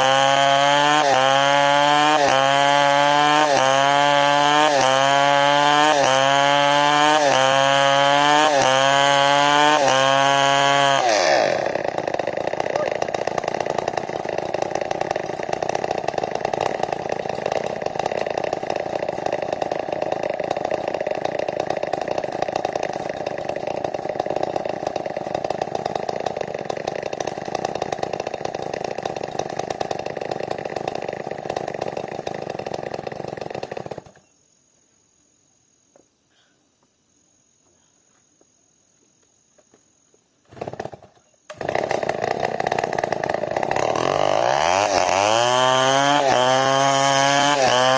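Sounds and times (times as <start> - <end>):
chainsaw running at high revs: 0.0 - 34.2, 40.5 - 47.9.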